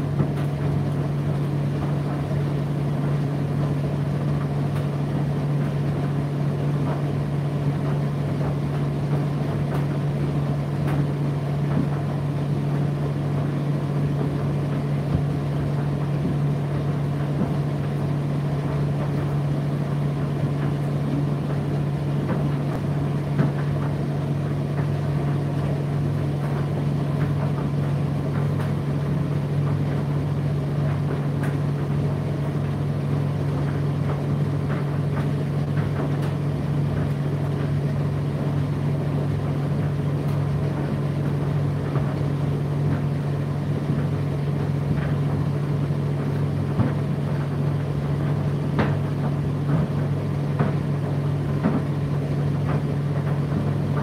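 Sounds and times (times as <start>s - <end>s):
tumble dryer running: 0.0s - 54.0s.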